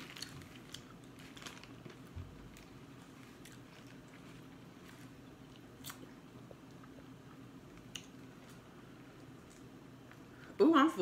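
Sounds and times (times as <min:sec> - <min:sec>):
person chewing: 0:00.0 - 0:10.3.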